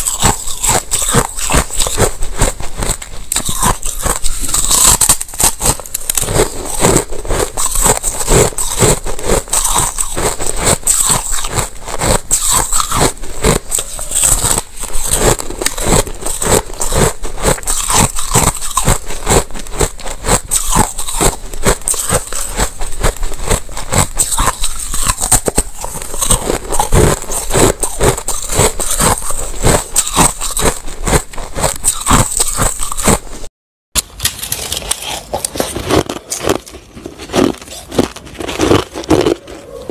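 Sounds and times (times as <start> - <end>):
teeth crunching ice: 0.0 - 33.4, 34.2 - 39.9.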